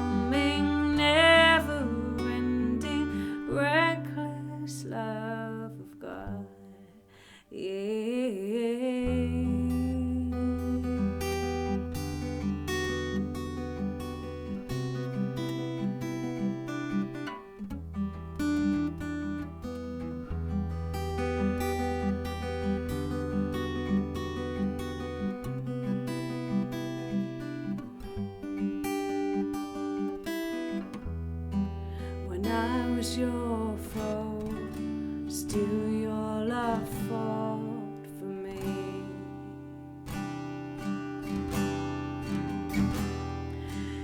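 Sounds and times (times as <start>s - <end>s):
acoustic guitar strumming: 0.0s - 6.4s, 9.1s - 44.0s.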